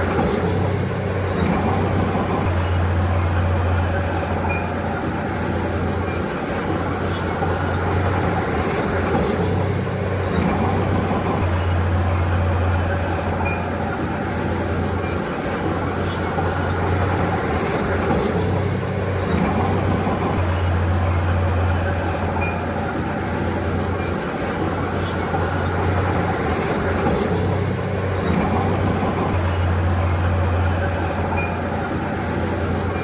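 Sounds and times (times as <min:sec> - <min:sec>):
bulldozer diesel engine: 0:00.0 - 0:33.0.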